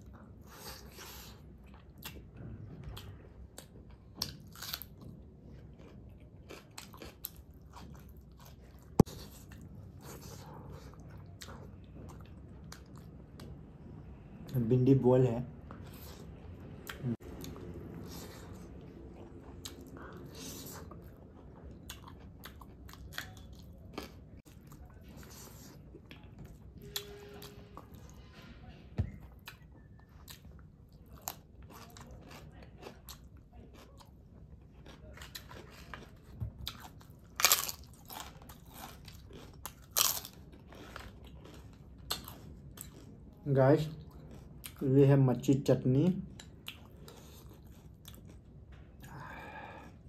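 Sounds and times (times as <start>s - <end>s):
person chewing and eating: 0.0s - 14.7s, 15.5s - 28.2s, 29.0s - 45.4s, 46.0s - 50.0s.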